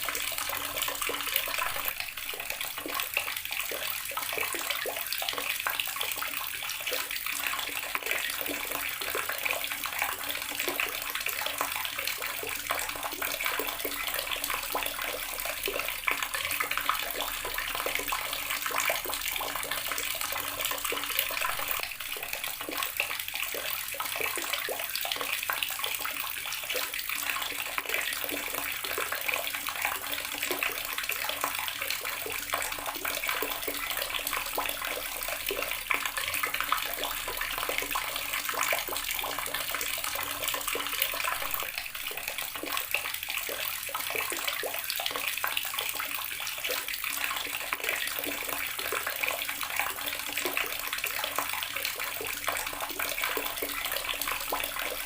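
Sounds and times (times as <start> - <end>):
water tap running and splashing: 0.0 - 55.0.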